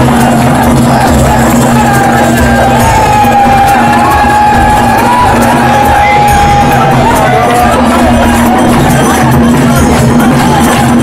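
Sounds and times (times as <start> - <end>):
loud music with held melody: 0.0 - 11.0.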